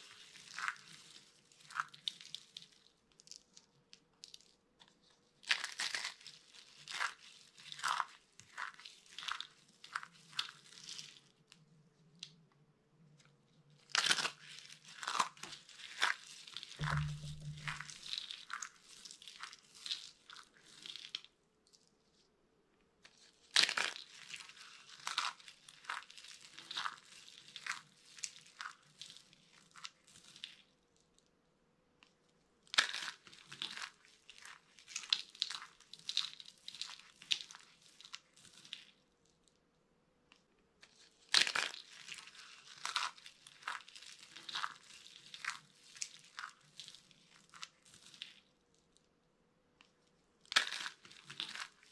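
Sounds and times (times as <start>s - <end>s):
dry soap crackling and crunching: 0.0s - 22.3s, 23.0s - 31.4s, 32.0s - 39.6s, 40.3s - 49.1s, 49.8s - 51.9s.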